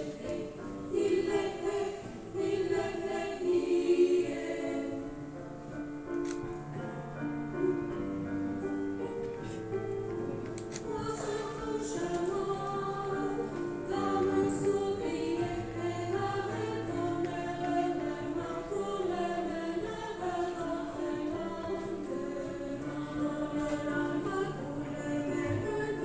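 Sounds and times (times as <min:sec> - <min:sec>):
choir singing chords: 0:00.0 - 0:06.1, 0:10.7 - 0:26.0.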